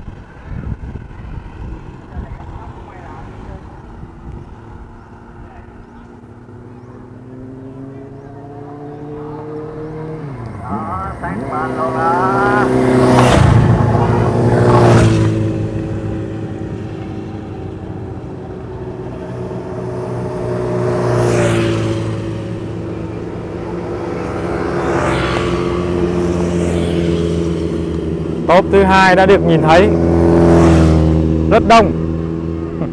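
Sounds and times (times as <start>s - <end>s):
steady engine hum: 0.0s - 32.9s
vehicles passing on a highway: 0.0s - 32.9s.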